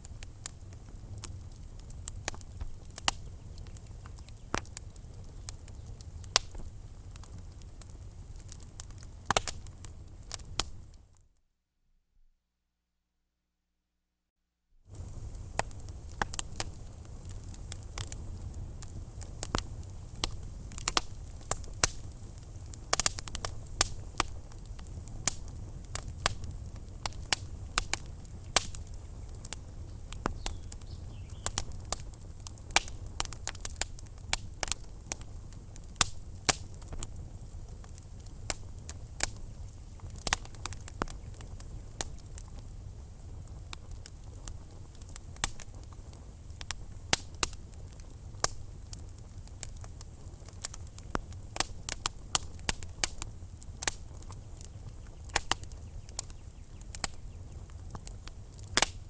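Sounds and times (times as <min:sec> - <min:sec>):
wood fire crackling and popping: 0:00.0 - 0:11.2, 0:14.9 - 0:59.0.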